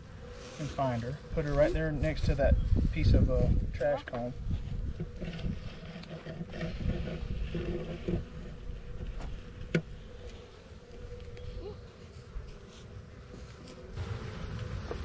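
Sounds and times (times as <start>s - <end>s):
honeybees buzzing: 0.0s - 3.0s, 3.6s - 15.0s.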